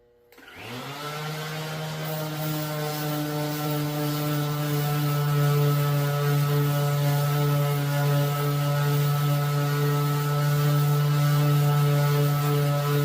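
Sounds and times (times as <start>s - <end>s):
electric sander running: 0.4s - 13.0s.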